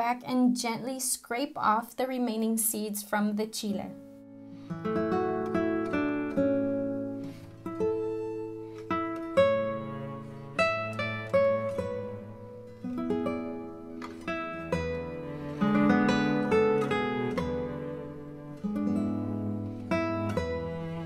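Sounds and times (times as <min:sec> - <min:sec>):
plucked acoustic guitar melody: 0:03.8 - 0:21.0.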